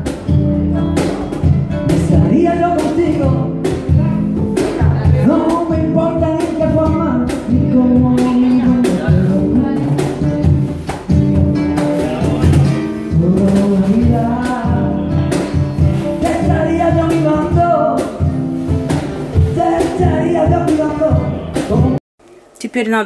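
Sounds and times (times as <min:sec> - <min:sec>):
acoustic guitar: 0:00.0 - 0:22.0
box drum hits: 0:00.0 - 0:22.0
man singing: 0:00.8 - 0:10.7, 0:11.8 - 0:18.4, 0:19.2 - 0:22.0.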